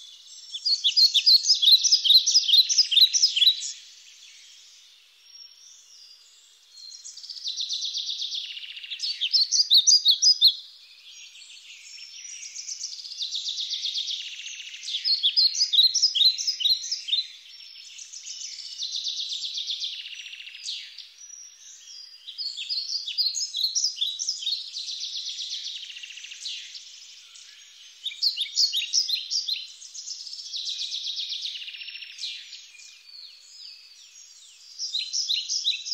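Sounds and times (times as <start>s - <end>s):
songbirds singing: 0.0s - 35.9s.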